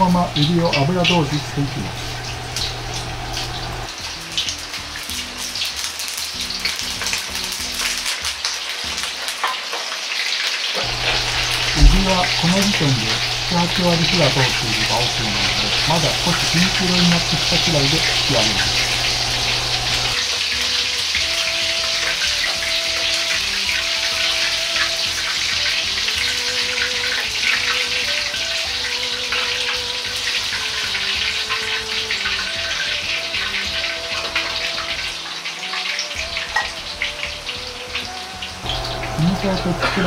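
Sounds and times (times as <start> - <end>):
soft background music: 0.0 - 1.9, 3.9 - 19.3, 20.2 - 40.0
hot oil sizzling: 0.0 - 40.0.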